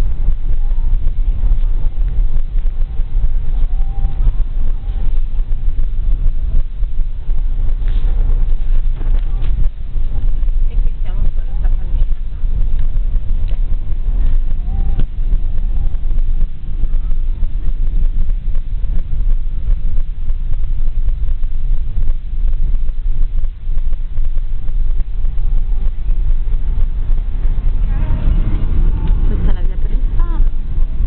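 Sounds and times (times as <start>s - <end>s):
car engine rumble in cabin: 0.0s - 31.0s.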